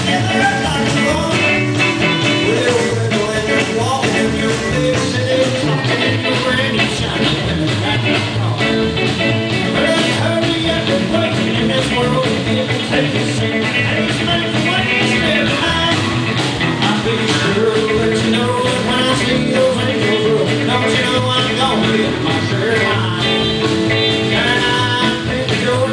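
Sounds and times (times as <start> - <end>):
country band playing: 0.0 - 25.9.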